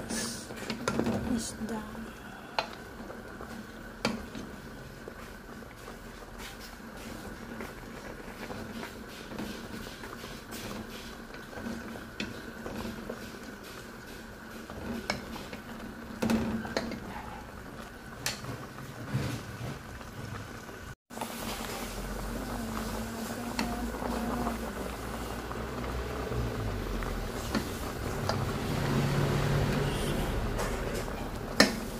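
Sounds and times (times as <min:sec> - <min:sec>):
soup simmering and bubbling: 0:00.0 - 0:31.9.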